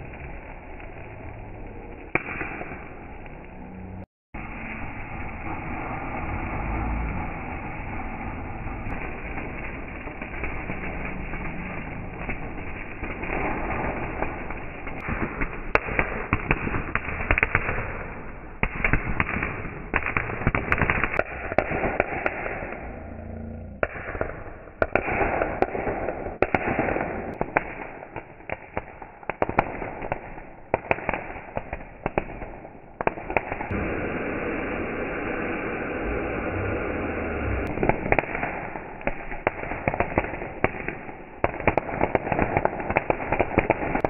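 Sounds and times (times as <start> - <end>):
firework spraying sparks: 0.0 - 23.0, 23.8 - 44.0.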